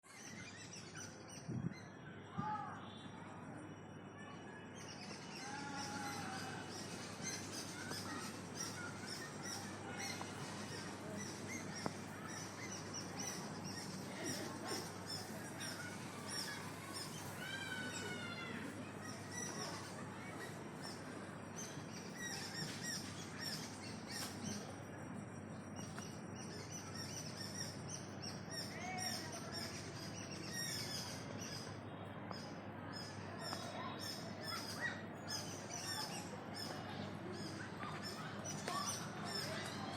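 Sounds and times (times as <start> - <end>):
birds chirping: 4.8 - 39.9.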